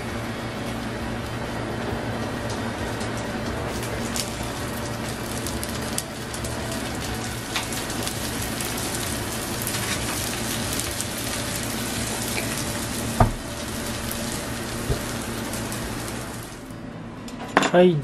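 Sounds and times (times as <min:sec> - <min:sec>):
rice sizzling in a pan: 0:00.0 - 0:16.7.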